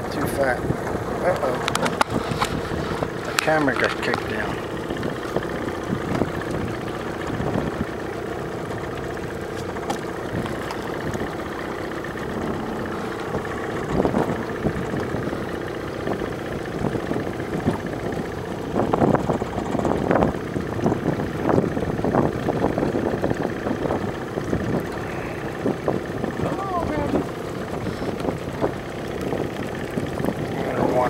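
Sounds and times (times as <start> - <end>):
boat motor idling: 0.0 - 31.0.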